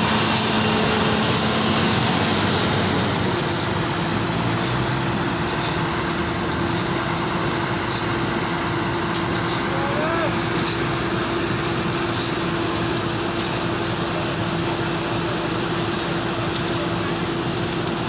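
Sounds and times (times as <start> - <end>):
heavy engine running under load: 0.0 - 18.0.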